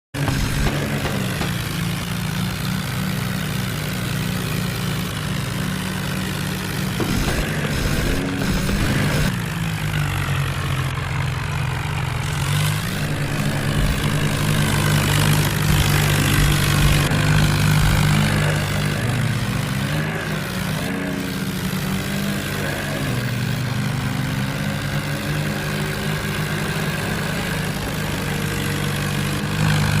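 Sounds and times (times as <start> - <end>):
tractor diesel engines running: 0.1 - 30.0.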